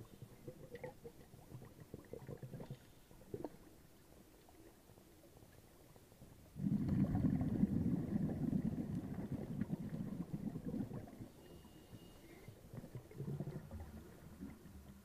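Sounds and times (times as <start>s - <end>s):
bubbling rumble: 0.0s - 4.8s, 5.8s - 11.4s, 12.6s - 15.0s.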